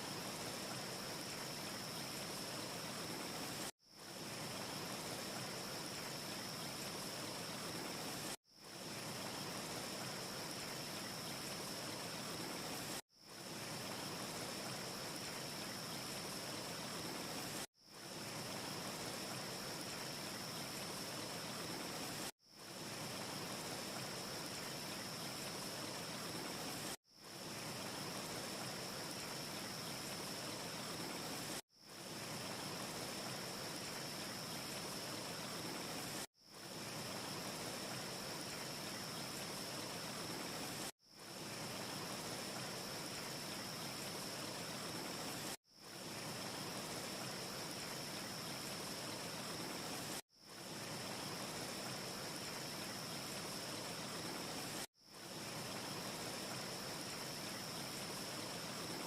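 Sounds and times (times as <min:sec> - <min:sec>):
rushing hiss ambience: 0:00.0 - 0:59.0.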